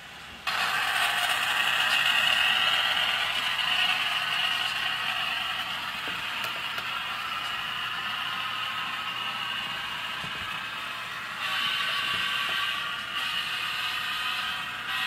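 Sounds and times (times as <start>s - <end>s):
model train wheels clattering: 0.5s - 15.0s.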